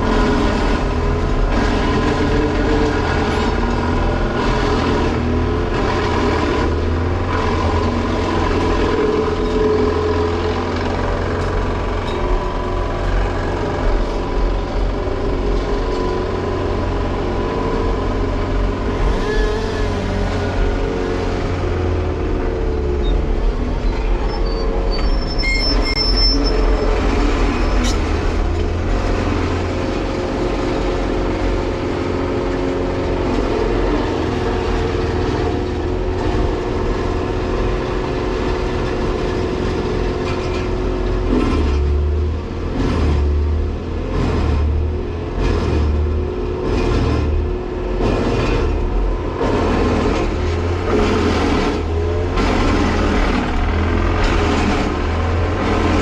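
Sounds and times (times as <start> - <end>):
heavy diesel drone with whine: 0.0 - 56.0.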